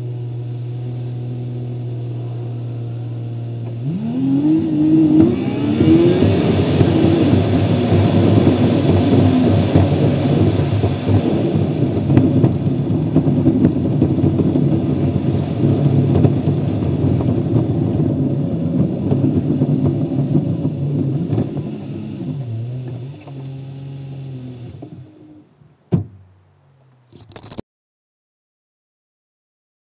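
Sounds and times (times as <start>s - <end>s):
car engine tyres and wind rumble: 0.0s - 27.6s.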